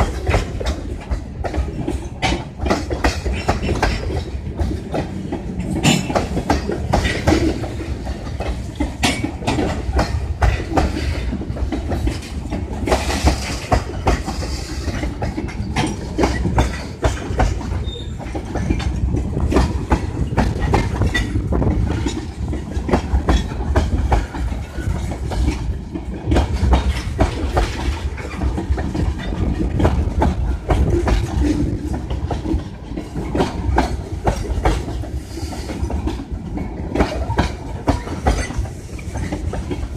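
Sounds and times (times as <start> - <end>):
train low rumble: 0.0 - 39.9
wheels clacking over rail joints: 0.0 - 39.9.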